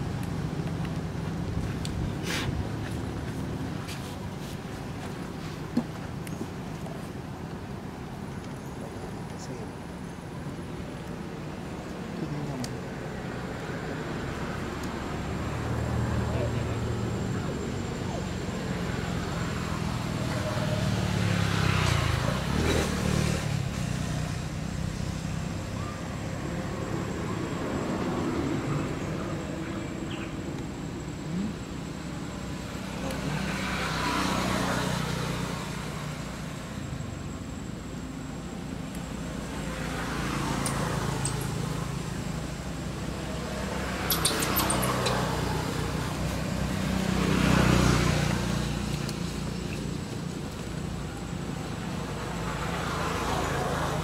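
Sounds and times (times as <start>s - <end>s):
low traffic rumble: 0.0s - 54.0s
vehicles passing: 0.0s - 54.0s.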